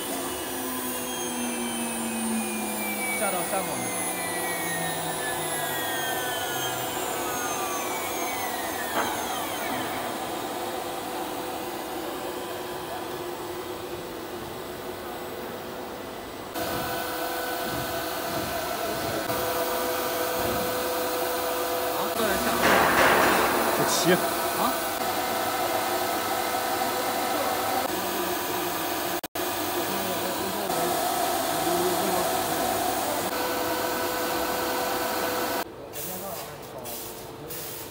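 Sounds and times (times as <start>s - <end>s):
machining centre whine: 0.0s - 35.7s.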